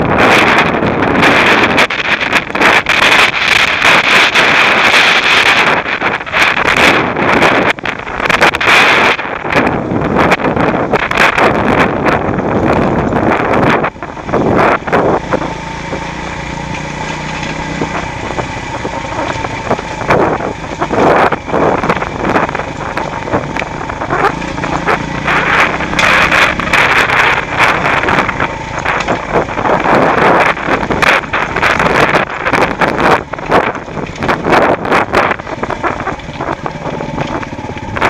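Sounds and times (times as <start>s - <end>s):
knocks and rattles of bike: 0.0s - 38.0s
motorcycle engine running: 0.0s - 38.0s
wind buffeting microphone: 0.0s - 38.0s.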